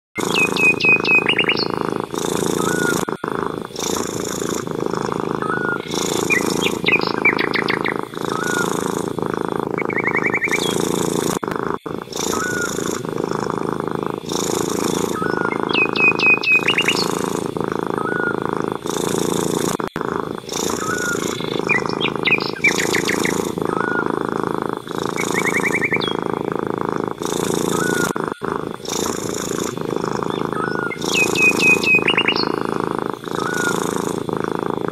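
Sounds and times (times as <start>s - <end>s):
cat purring: 0.2s - 34.9s
small birds chirping: 0.2s - 34.9s.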